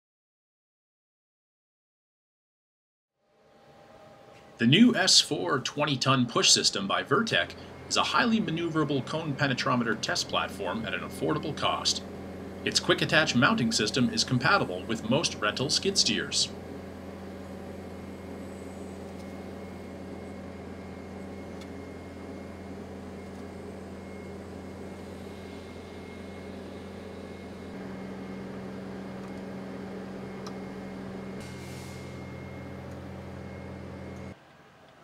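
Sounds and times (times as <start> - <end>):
skid steer engine running: 4.6 - 34.4.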